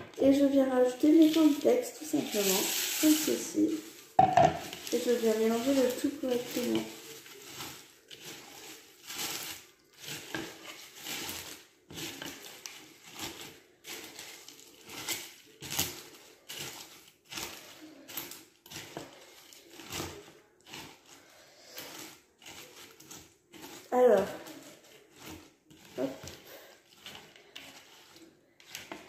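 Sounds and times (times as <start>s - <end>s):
spatula stirring cornflakes: 0.0s - 29.0s.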